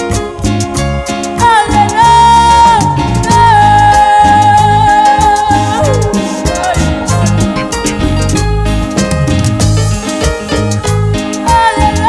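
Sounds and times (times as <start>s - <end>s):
upbeat latin-style worship music: 0.0s - 12.0s.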